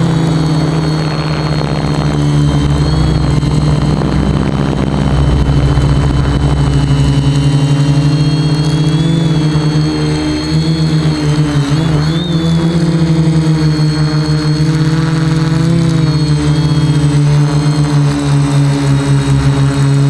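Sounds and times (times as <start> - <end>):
quadcopter propellers buzzing: 0.0 - 20.0.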